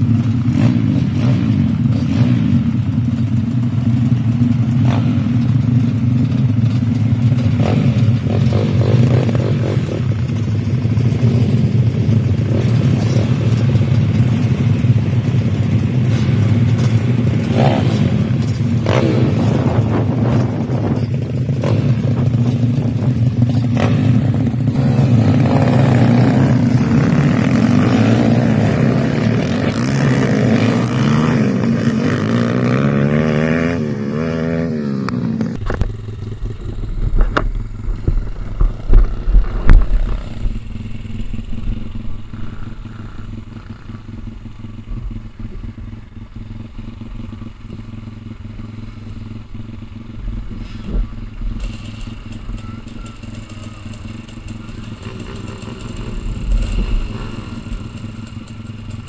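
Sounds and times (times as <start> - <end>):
dirt bike idling: 0.0 - 59.0
pit bike engines idling and blipping: 0.0 - 59.0.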